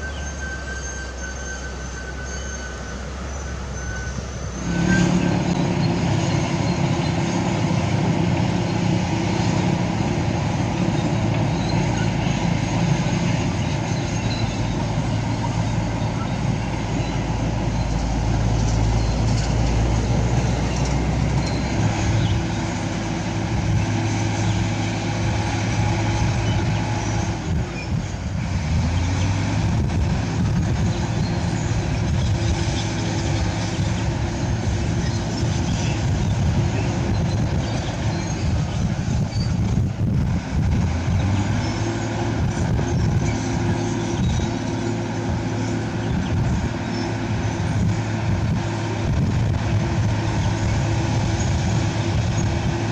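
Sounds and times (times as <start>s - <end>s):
heavy machinery diesel engines: 0.0s - 52.9s.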